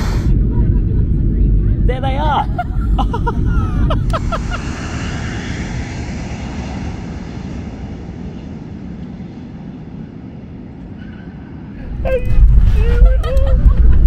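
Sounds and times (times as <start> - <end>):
passenger plane passing overhead: 0.0 - 14.0.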